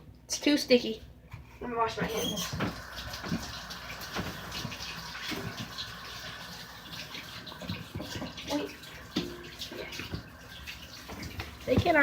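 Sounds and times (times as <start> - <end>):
water running from a tap: 1.8 - 12.0.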